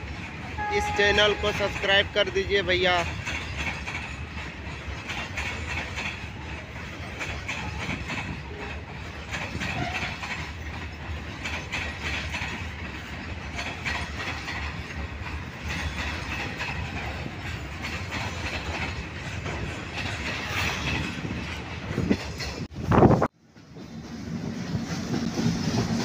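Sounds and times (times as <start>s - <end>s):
wheels clicking over rail joints: 0.0s - 22.8s
freight train rolling past: 0.0s - 26.0s
train bump: 0.0s - 26.0s.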